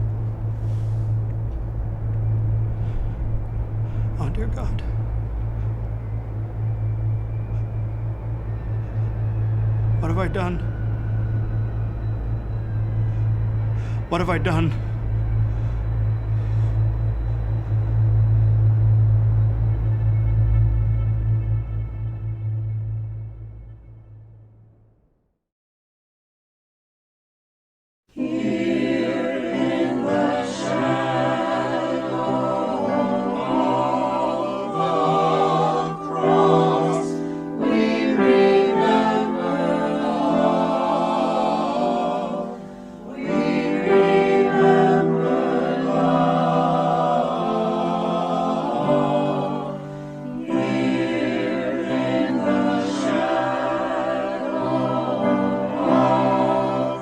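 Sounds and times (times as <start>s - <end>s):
choir singing: 0.0s - 23.2s, 28.1s - 57.0s.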